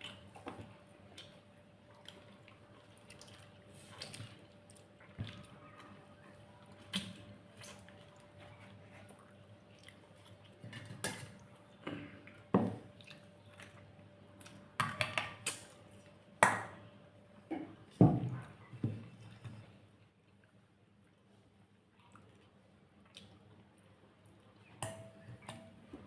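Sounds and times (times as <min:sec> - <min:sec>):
soft chewing: 0:00.0 - 0:14.7, 0:17.5 - 0:24.8.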